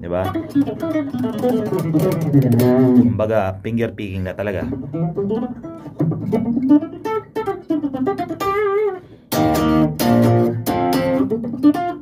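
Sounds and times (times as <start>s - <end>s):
electric guitar picked: 0.0s - 3.3s, 4.6s - 12.0s.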